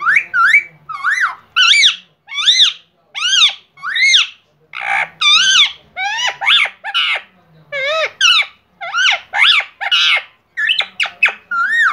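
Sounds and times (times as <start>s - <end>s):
parrot high-pitched calls: 0.0s - 11.9s.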